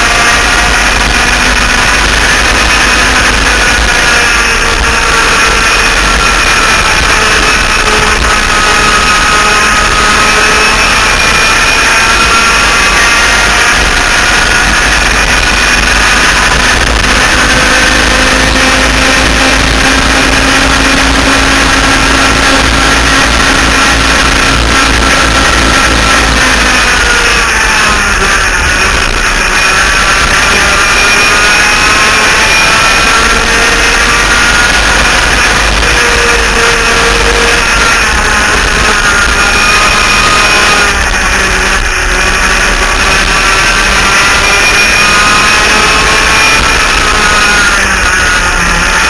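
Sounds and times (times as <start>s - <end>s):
kart engines at high speed: 0.0s - 49.0s
wind rush over microphone: 0.0s - 49.0s.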